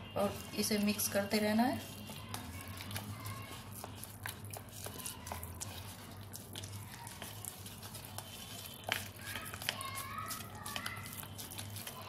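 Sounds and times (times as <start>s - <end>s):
spatula stirring wet batter: 0.0s - 12.0s.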